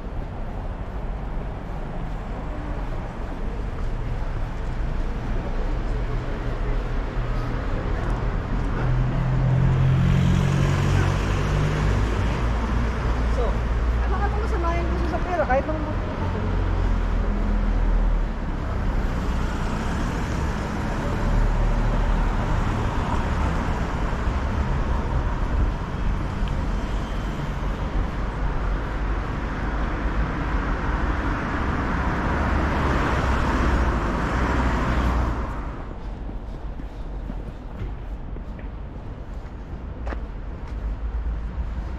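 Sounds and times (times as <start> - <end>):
road traffic rumble and hiss: 0.0 - 41.9.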